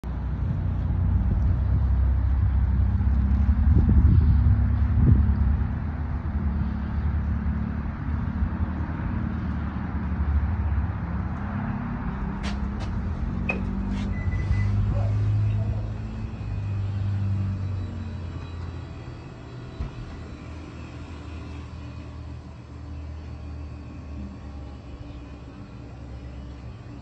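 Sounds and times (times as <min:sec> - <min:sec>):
engine rumbling: 0:00.0 - 0:27.0.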